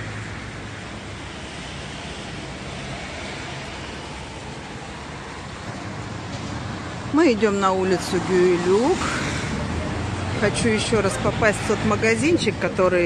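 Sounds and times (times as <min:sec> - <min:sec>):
road traffic: 0:00.0 - 0:13.0
wind: 0:00.0 - 0:13.0.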